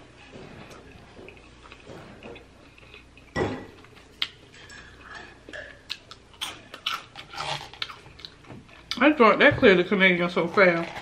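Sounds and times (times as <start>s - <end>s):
person chewing food: 0.0s - 9.0s.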